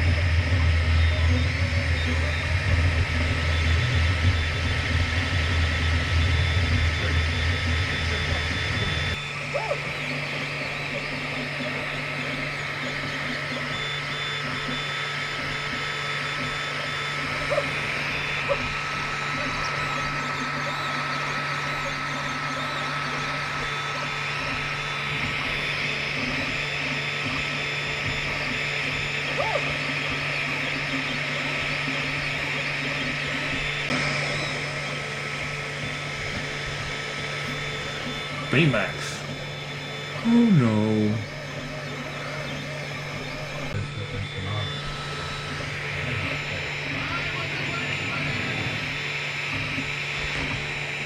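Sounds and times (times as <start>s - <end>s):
steady fan hum: 0.0s - 51.0s
stepper motors whining: 0.0s - 51.0s.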